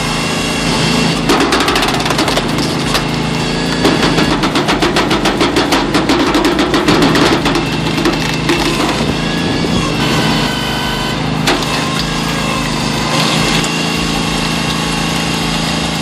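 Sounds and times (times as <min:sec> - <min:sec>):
small engine running steadily: 0:00.0 - 0:16.0.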